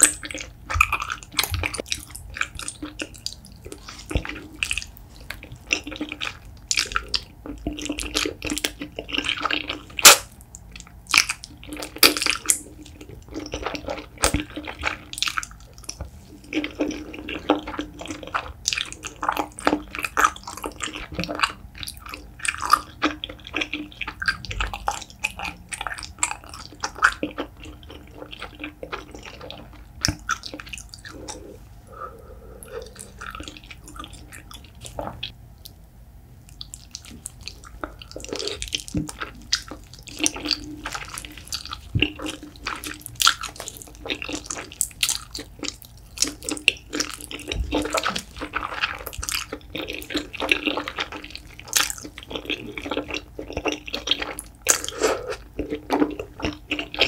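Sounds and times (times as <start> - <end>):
noodles being chewed: 0.0 - 57.0.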